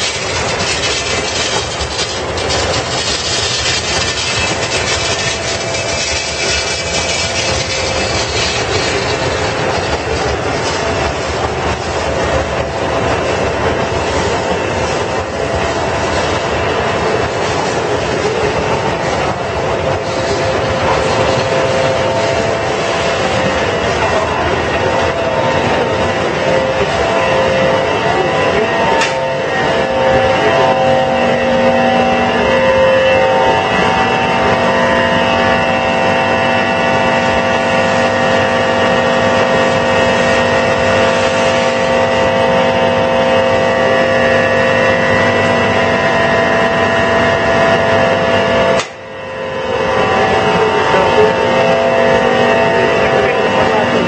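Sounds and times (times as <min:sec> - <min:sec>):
industrial machinery humming: 0:00.0 - 0:54.0.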